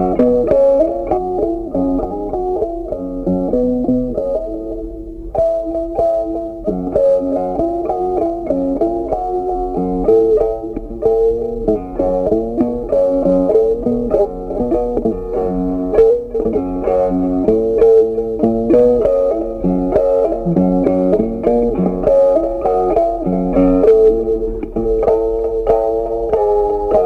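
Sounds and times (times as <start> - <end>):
plucked-string melody with bass: 0.0 - 27.0.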